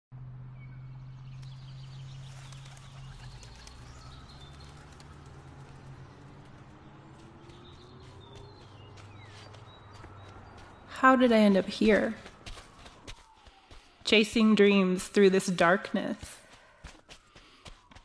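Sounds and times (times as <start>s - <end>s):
birds chirping: 0.4s - 18.0s.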